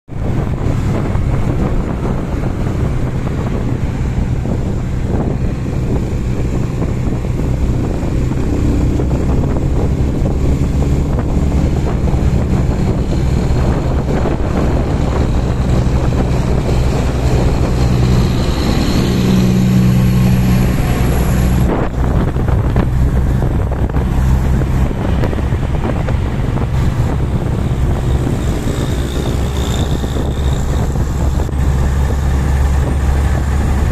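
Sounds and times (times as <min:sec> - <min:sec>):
motorcycle engine running: 0:00.1 - 0:33.9
wind buffeting microphone: 0:00.1 - 0:33.9.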